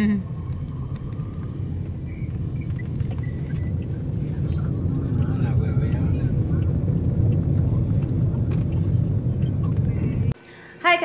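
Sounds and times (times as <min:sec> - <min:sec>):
road noise: 0:00.0 - 0:10.4
vehicle engine rumble: 0:00.0 - 0:10.4.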